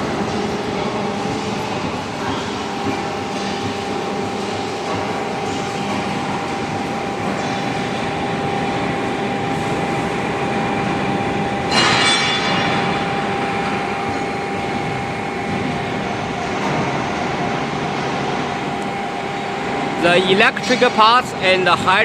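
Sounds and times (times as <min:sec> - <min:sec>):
hydraulic machine humming: 0:00.0 - 0:22.0.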